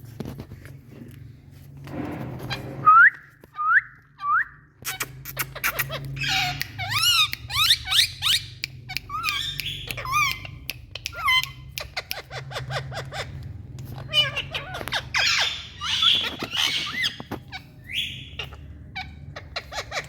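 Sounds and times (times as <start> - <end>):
parrots squawking and chirping: 2.0 - 3.0, 4.1 - 20.0.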